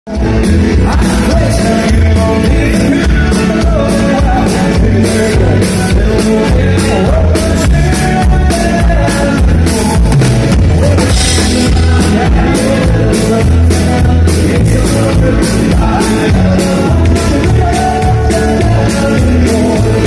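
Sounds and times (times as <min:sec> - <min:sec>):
drum kit beat: 0:00.1 - 0:20.0
live rock band playing: 0:00.1 - 0:20.0
person singing: 0:00.1 - 0:20.0.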